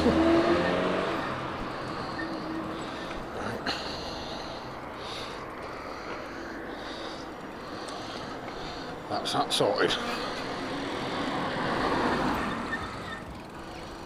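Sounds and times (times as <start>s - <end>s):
vehicle engine: 0.0s - 14.0s.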